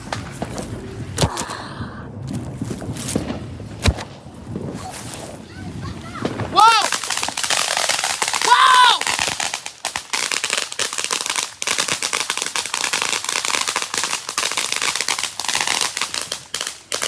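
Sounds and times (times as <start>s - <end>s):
firework crackling: 0.0s - 17.0s.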